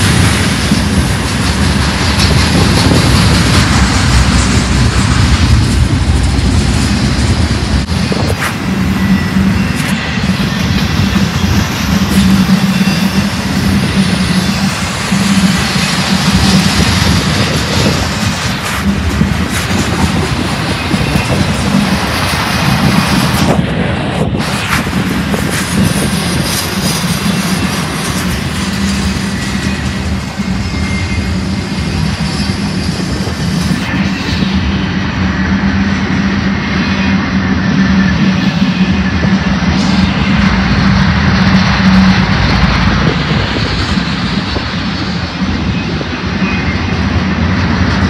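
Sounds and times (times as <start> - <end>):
low drone: 0.0 - 48.0
train wheels rumbling on rail: 0.0 - 48.0.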